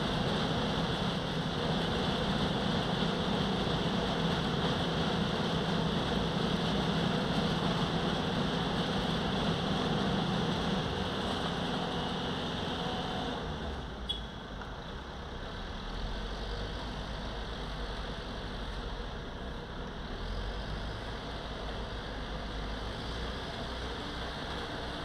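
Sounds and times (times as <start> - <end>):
backhoe loader engine running: 0.0 - 25.0
milling machine diesel engine: 0.0 - 25.0.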